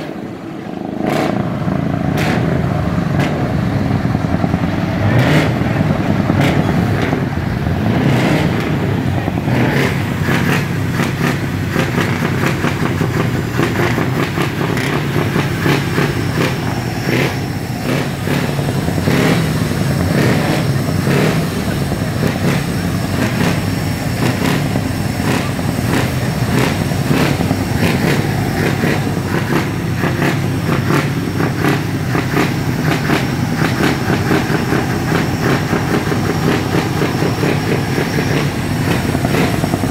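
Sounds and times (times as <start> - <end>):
diesel truck engines running: 0.0 - 39.9.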